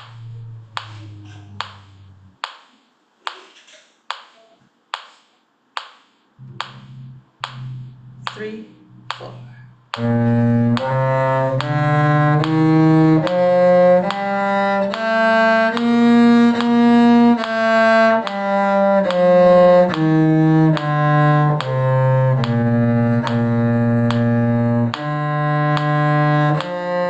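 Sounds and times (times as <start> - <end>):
bowed strings playing a scale: 0.0 - 2.4, 6.4 - 27.0
metronome clicking: 0.0 - 2.6, 5.8 - 27.0.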